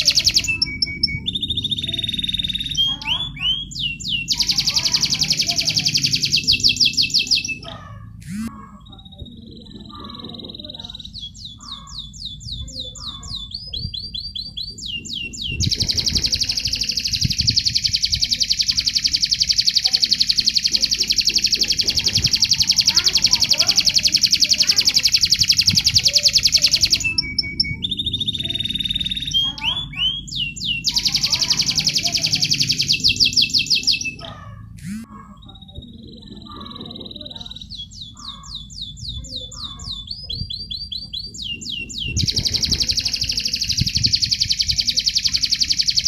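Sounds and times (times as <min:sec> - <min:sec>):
canary singing fast trills: 0:00.0 - 0:46.0.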